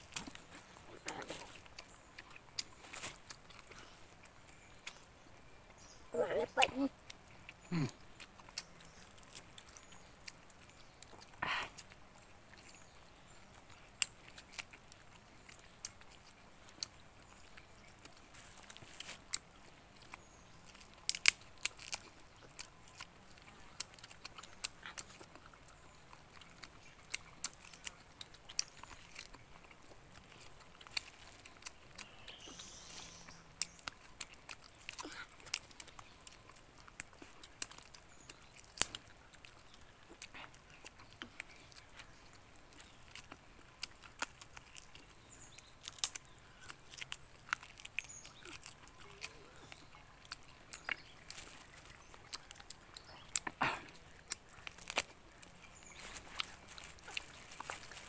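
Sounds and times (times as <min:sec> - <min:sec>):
people chewing food: 0:00.0 - 0:58.0.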